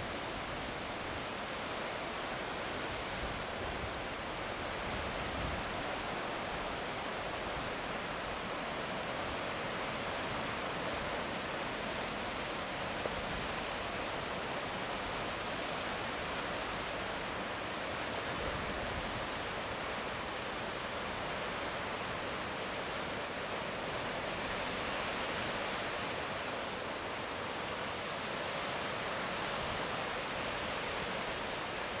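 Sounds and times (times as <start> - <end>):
surf washing over rocks: 0.0 - 32.0.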